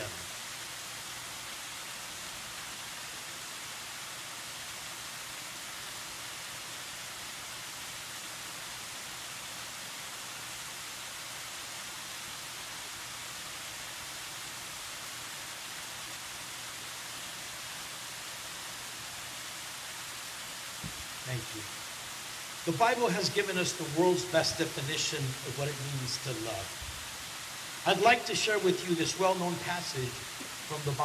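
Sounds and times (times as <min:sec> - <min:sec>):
waterfall hissing: 0:00.0 - 0:31.0.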